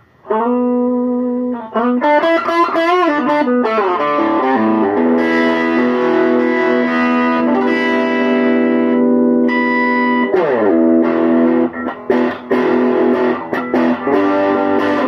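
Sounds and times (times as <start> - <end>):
overdriven electric blues guitar: 0.0 - 15.0.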